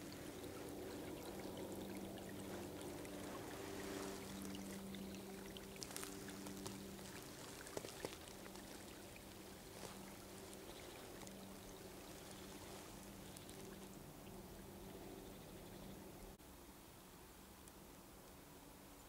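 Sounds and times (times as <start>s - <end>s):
stream water flowing: 0.0s - 16.1s
faint low hum: 0.0s - 19.0s.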